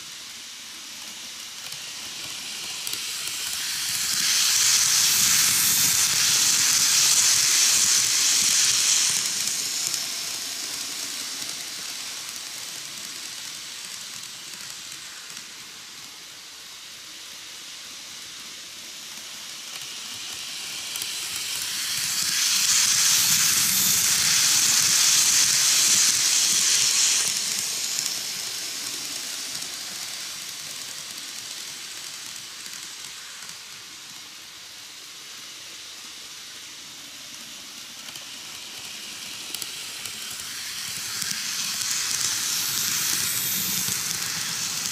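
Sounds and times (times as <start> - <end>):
model train wheels on rails: 0.0 - 44.9.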